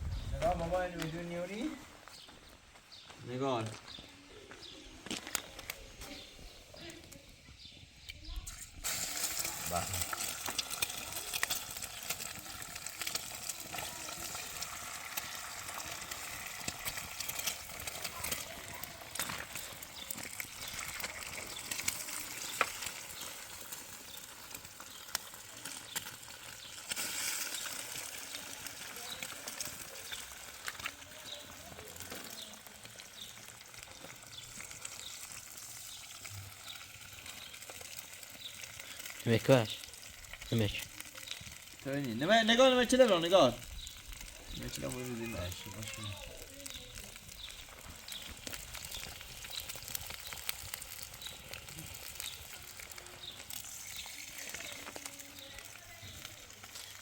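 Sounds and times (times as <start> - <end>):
rain pattering: 8.8 - 57.0.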